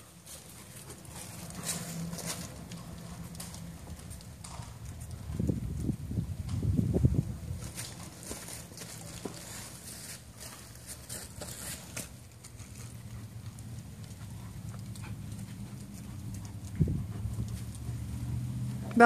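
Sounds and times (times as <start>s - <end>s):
dog paws pattering and claws clicking: 0.0s - 19.0s.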